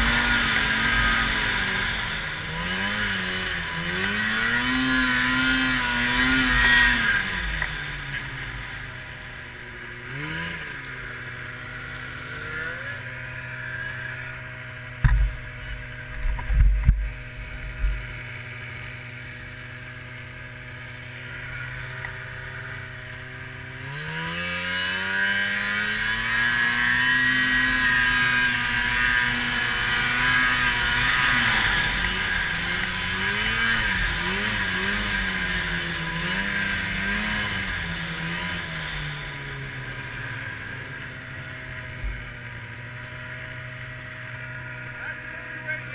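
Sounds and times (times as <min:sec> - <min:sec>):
snowmobile engine revving: 0:00.0 - 0:45.9.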